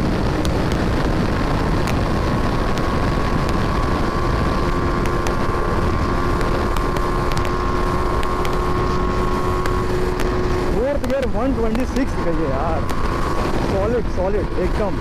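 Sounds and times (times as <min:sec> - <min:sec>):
motorcycle engine at full throttle: 0:00.0 - 0:15.0
wind rush: 0:00.0 - 0:15.0.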